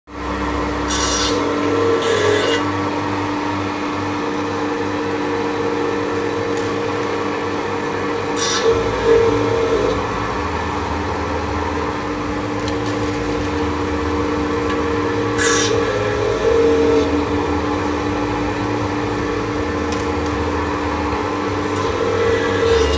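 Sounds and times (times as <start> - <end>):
electric motor hum: 0.1 - 22.9.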